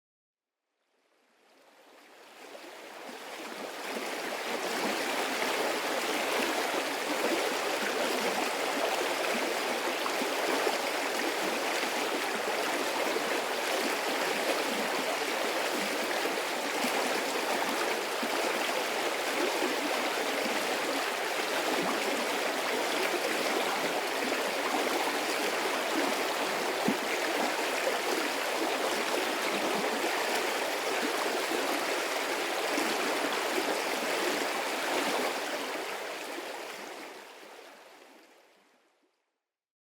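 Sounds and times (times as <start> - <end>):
stream of running water: 1.4 - 38.5.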